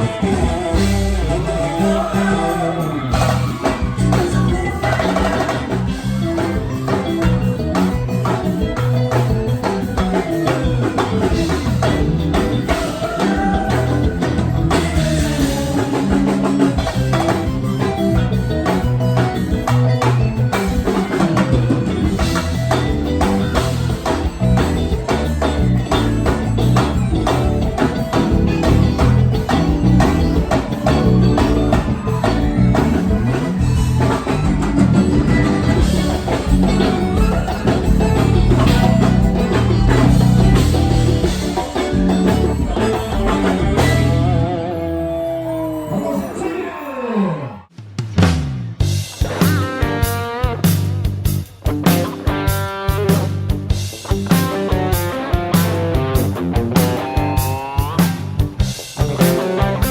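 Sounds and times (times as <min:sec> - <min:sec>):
drums: 0:00.0 - 0:47.0, 0:47.6 - 0:59.9
live band playing: 0:00.0 - 0:59.9.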